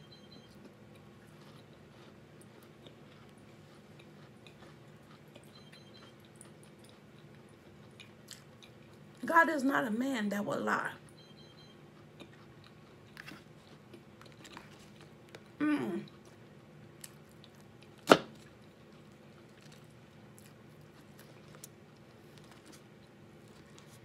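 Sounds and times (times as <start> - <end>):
chewing and mouth clicks: 0.5 - 9.2, 11.9 - 24.0.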